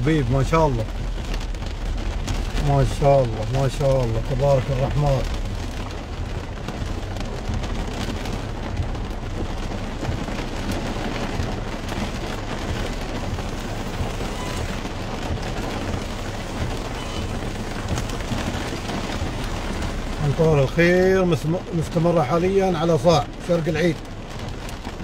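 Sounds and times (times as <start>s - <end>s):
heavy rain on car roof: 0.0s - 25.0s.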